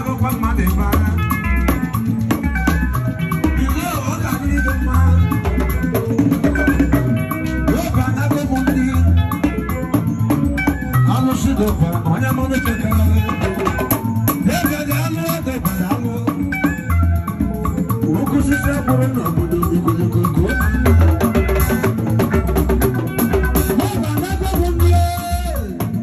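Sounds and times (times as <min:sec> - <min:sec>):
drum beat: 0:00.0 - 0:26.0
electric guitar: 0:00.0 - 0:26.0.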